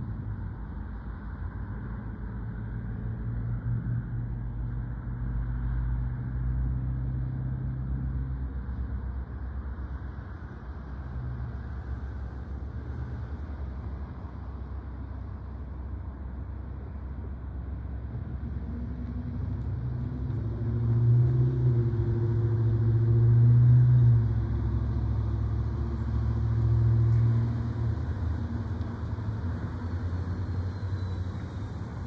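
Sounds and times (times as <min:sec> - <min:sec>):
cars passing: 0:00.0 - 0:32.0
locomotive diesel engine drone: 0:00.0 - 0:32.0.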